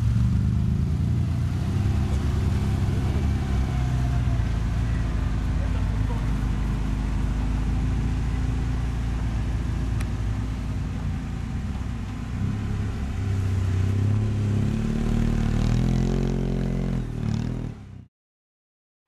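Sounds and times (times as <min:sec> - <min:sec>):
off-road car engine revving: 0:00.0 - 0:18.1.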